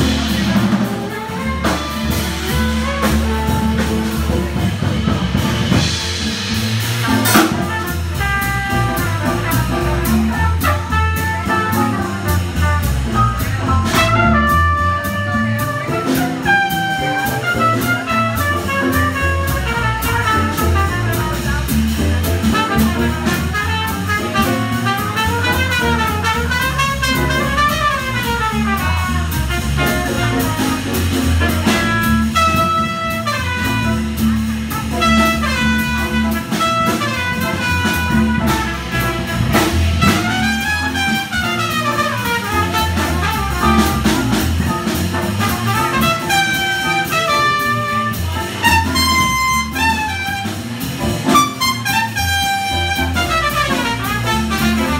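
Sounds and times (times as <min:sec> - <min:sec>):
bass: 0:00.0 - 0:54.9
drum kit: 0:00.0 - 0:54.9
piano: 0:00.0 - 0:54.9
trumpet playing quick runs: 0:00.0 - 0:54.9.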